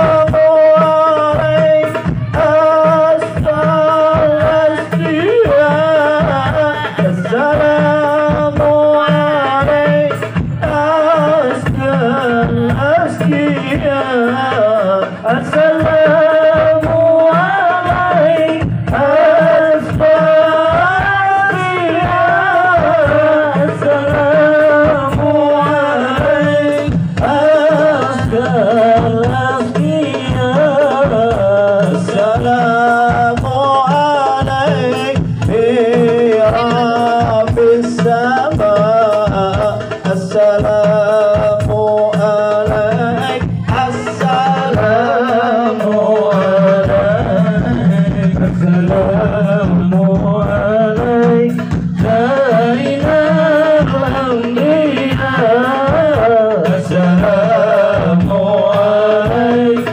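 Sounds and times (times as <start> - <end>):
hand drums beating: 0.0 - 59.9
male voices singing devotional song: 0.0 - 59.9.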